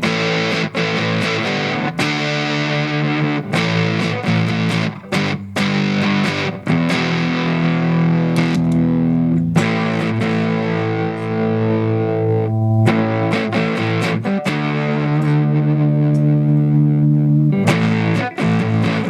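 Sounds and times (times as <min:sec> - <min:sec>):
fuzz electric guitar: 0:00.0 - 0:19.0.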